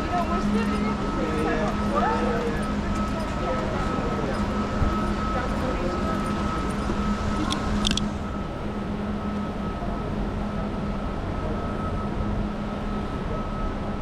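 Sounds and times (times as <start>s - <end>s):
constant mechanical hum: 0.0s - 14.0s
urban background noise: 0.0s - 14.0s.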